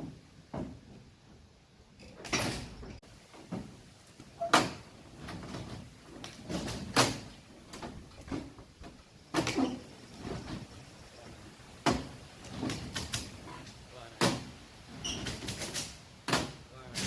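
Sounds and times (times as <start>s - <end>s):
steel clanking and scraping: 2.0s - 17.0s.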